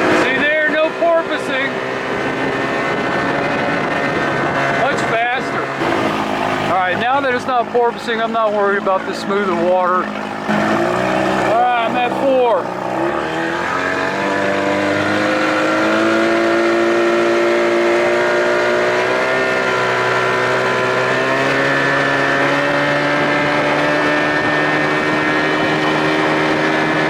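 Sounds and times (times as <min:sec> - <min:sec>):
outboard motor running under load: 0:00.0 - 0:27.0.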